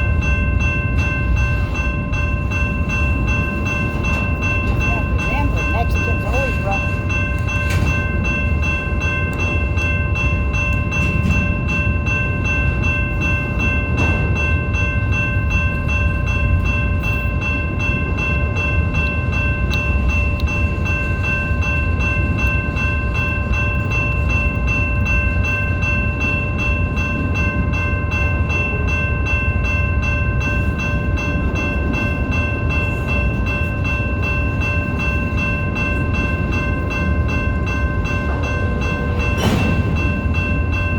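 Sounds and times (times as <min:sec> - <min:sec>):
freight train rumbling on rails: 0:00.0 - 0:40.9.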